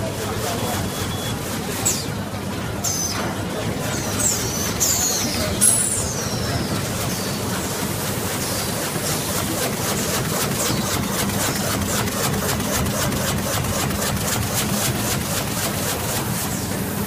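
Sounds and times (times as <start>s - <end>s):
machine humming and clicking: 0.0s - 17.0s.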